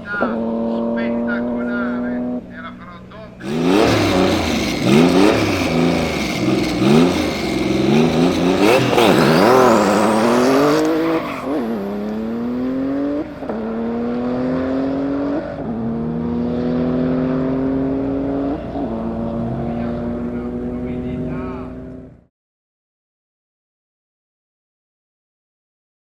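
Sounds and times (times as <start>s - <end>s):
car engine revving and accelerating: 0.0s - 2.6s, 3.4s - 22.3s.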